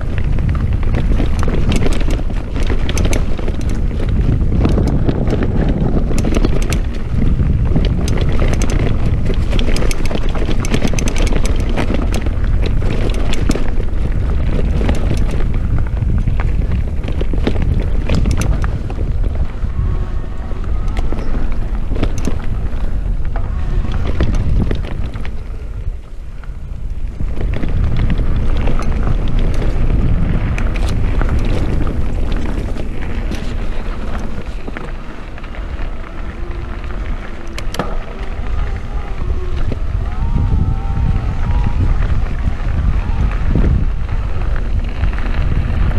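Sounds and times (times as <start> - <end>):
bike rattling: 0.0 - 45.9
wind buffeting microphone: 0.0 - 45.9.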